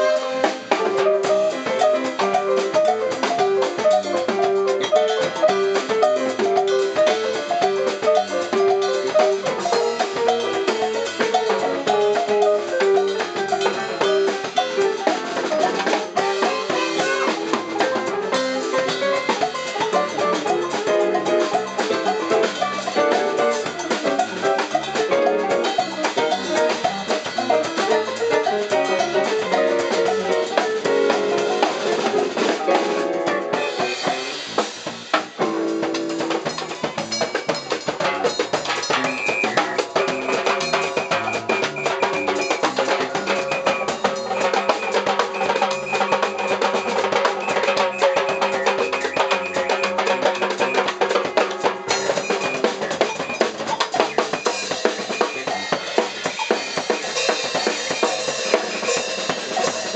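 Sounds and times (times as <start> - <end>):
congas and drum kit: 0.0 - 59.9
electric guitar: 0.0 - 59.9
keyboard: 0.0 - 59.9.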